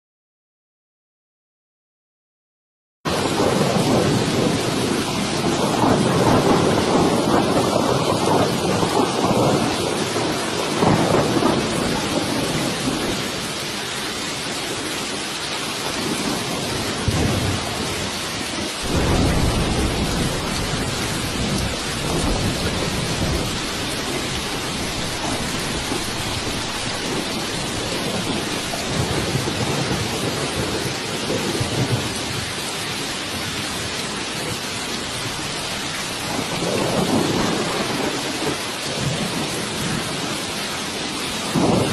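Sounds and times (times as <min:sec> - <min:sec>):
thunder rumbling: 0:03.1 - 0:40.4, 0:41.3 - 0:41.9
heavy rain: 0:03.1 - 0:41.9.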